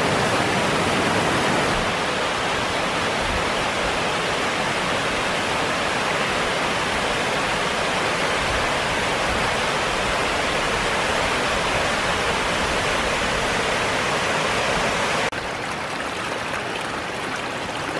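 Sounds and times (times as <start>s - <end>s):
waterfall roaring: 0.0s - 17.9s.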